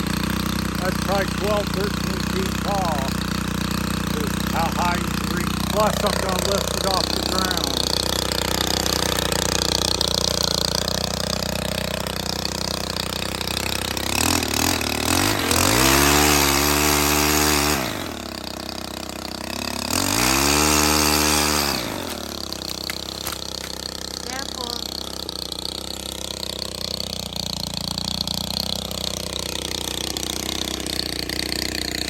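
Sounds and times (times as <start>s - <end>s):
pole saw engine idling and revving: 0.0s - 32.0s.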